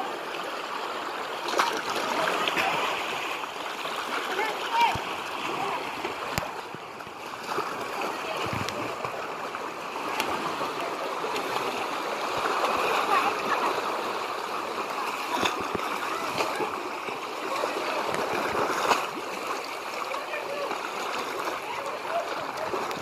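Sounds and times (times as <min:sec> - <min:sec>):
swimmers splashing: 0:00.0 - 0:23.0
water splashing against rocks: 0:00.0 - 0:23.0.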